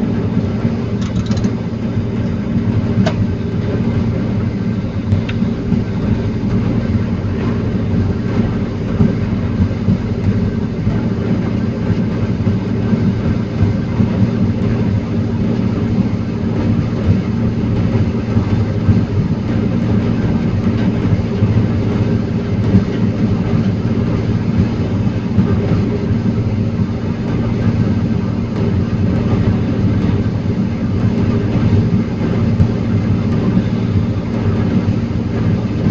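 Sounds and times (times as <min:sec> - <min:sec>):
heavy machine engine running: 0:00.0 - 0:35.9.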